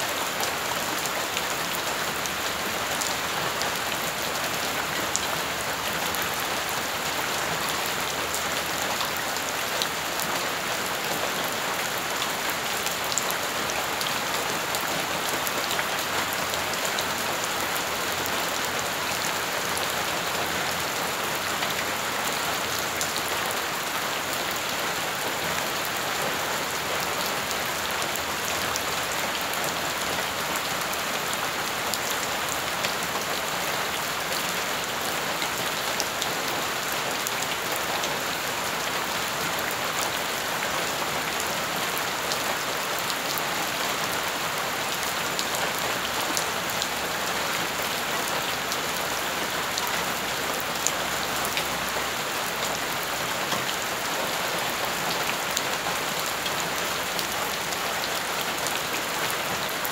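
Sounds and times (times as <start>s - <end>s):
rain splashing on puddles: 0.0s - 59.9s.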